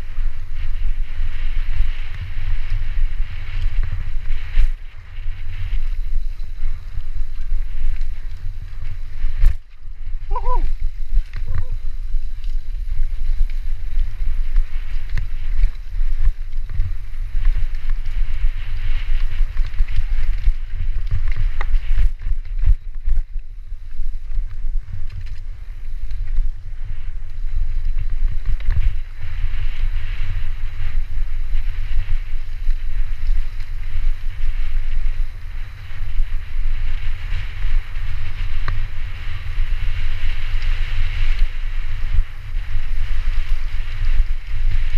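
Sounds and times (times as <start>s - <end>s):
tyres rumbling on trail: 0.0s - 44.9s
wind buffeting microphone: 0.0s - 44.9s.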